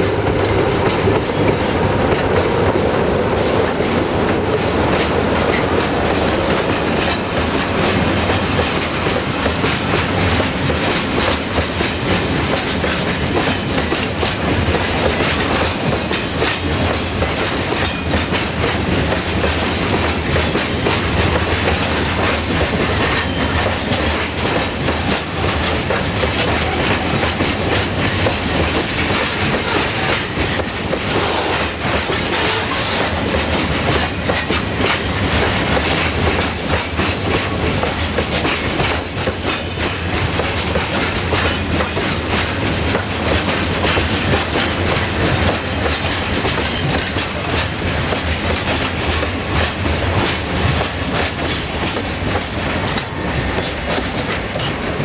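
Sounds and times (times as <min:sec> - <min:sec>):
train wheels rumbling on rails: 0:00.0 - 0:55.0
wheels clicking over rail joints: 0:00.1 - 0:55.0.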